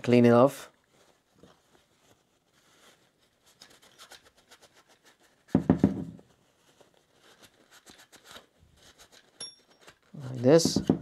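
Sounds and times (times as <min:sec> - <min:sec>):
cloth rag wiping plastic: 0:00.0 - 0:11.0.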